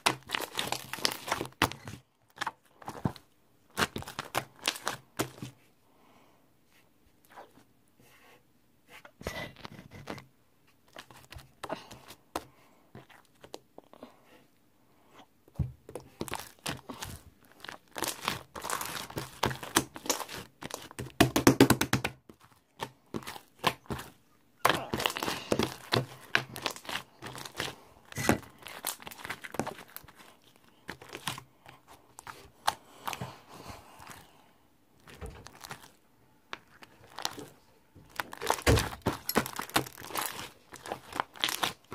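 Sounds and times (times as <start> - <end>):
crinkling and rustling: 0.0 - 5.7, 9.1 - 13.9, 15.5 - 21.4, 22.2 - 41.9.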